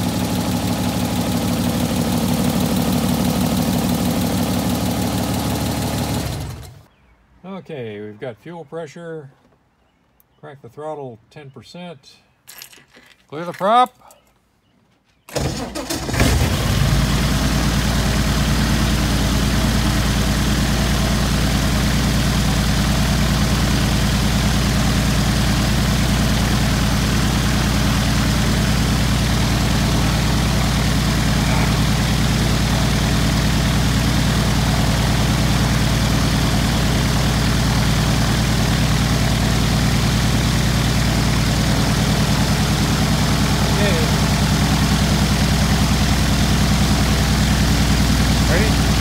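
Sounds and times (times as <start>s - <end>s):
aircraft engine starting and idling: 0.0s - 6.9s, 15.3s - 49.0s.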